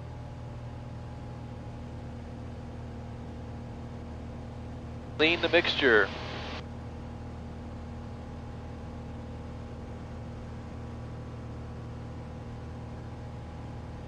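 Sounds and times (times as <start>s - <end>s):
aircraft engine and propeller drone: 0.0s - 14.0s.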